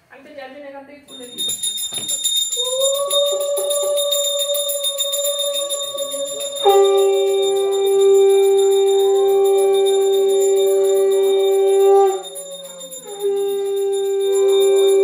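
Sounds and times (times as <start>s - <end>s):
hand bell ringing rapidly: 1.1s - 15.0s
conch shell blown: 2.8s - 15.0s.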